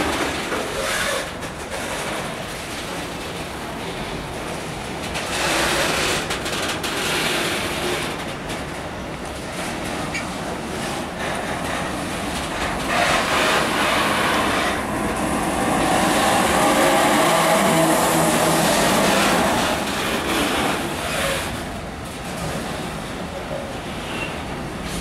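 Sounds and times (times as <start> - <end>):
train wheels running on rails: 0.0 - 25.0.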